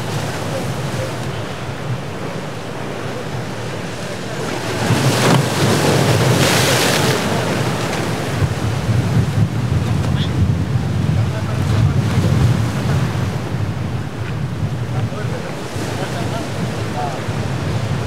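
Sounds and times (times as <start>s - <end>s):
surf breaking on rocks: 0.0s - 18.0s
wave crashing and splashing: 0.0s - 18.0s
wind buffeting microphone: 0.0s - 18.0s.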